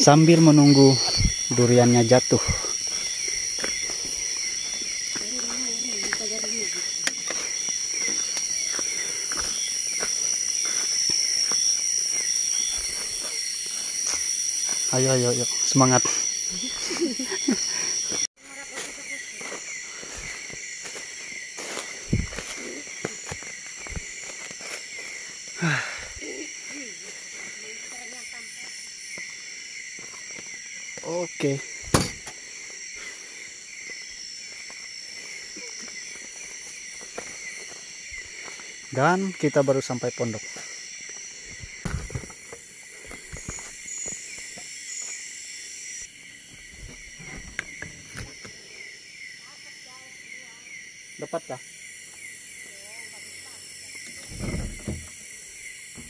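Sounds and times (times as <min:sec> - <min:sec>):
footsteps on forest floor: 0:00.0 - 0:48.8
night insects chirring: 0:00.0 - 0:56.0.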